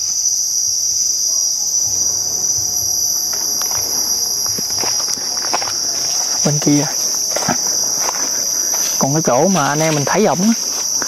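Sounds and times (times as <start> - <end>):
trilling insects: 0.0 - 11.0.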